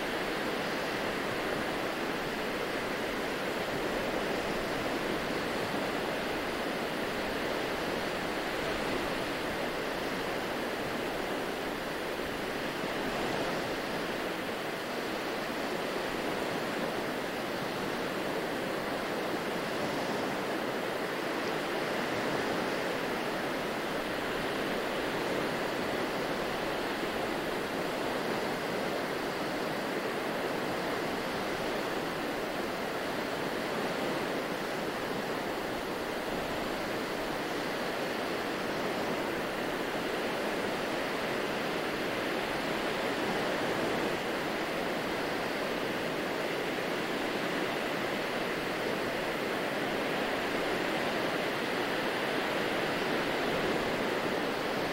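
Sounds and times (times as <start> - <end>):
small waves washing onto beach: 0.0 - 54.9.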